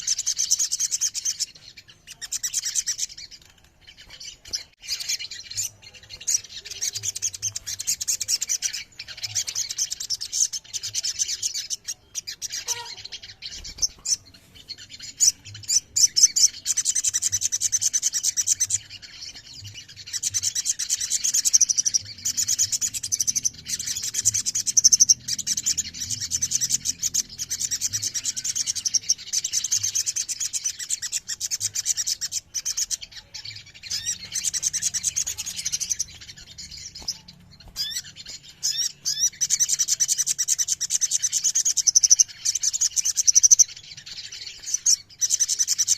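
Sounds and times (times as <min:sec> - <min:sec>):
birds singing high trills: 0:00.0 - 0:45.9.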